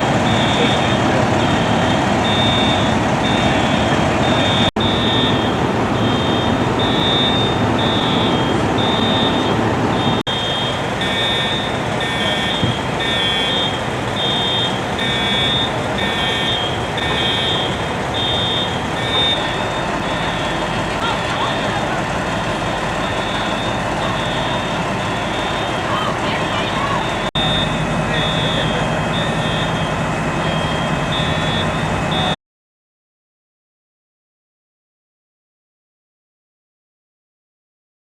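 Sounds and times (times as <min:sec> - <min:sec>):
fire truck engine running: 0:00.0 - 0:32.4
high-pitched electronic beeping: 0:00.3 - 0:21.8, 0:23.0 - 0:32.4.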